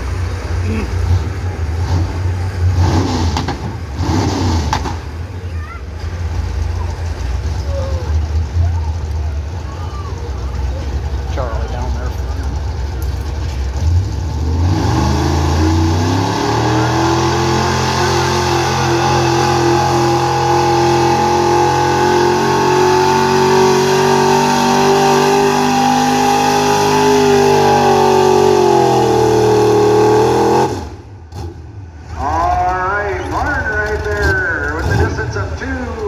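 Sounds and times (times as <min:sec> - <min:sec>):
pickup truck engine at full throttle: 0:00.0 - 0:36.0.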